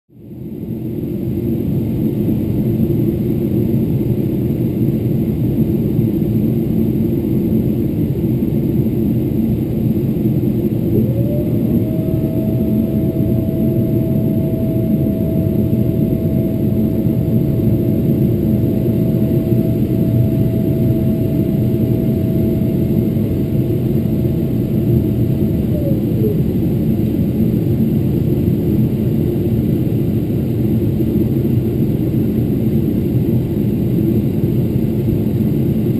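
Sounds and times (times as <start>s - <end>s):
airplane cabin rumble: 0.2s - 35.9s
steady whine: 0.2s - 35.9s.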